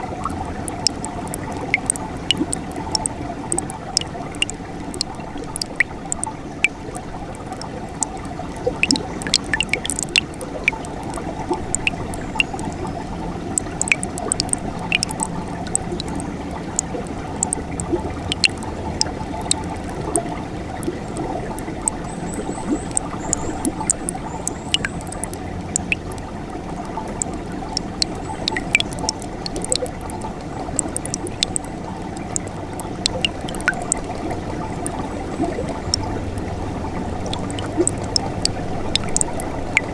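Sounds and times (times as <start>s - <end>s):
mountain stream flowing: 0.0s - 39.9s
small splashes and drips: 0.0s - 39.9s.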